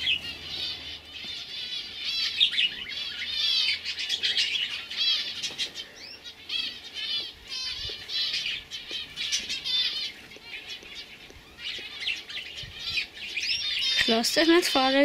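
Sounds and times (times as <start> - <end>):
canaries singing: 0.0 - 15.0.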